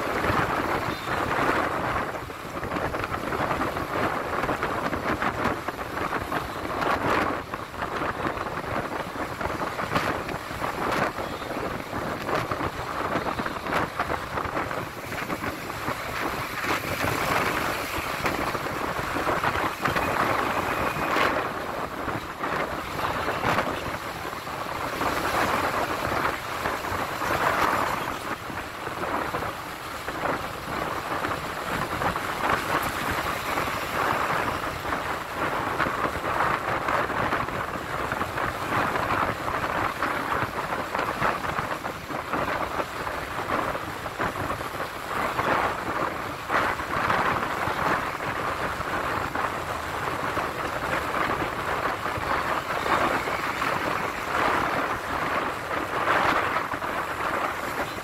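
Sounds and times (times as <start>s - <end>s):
road and traffic noise: 0.0s - 58.0s
wind noise on microphone: 0.0s - 58.0s.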